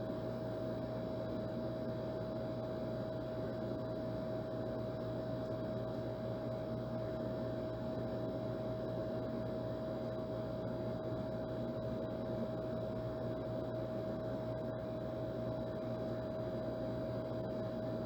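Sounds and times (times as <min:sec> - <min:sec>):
air conditioner running: 0:00.0 - 0:18.0.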